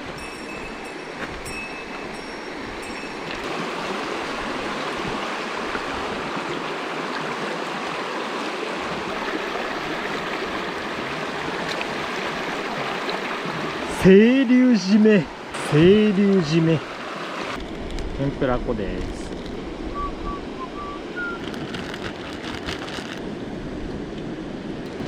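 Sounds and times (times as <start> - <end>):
stream water rushing: 0.0 - 17.8, 18.8 - 25.0.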